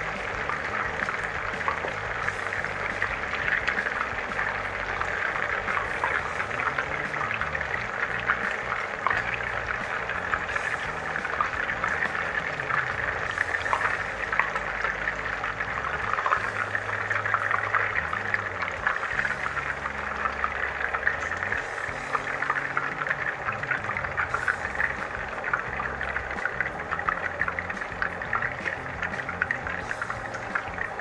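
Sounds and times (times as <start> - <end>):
chicken frying in hot oil: 0.0 - 31.0.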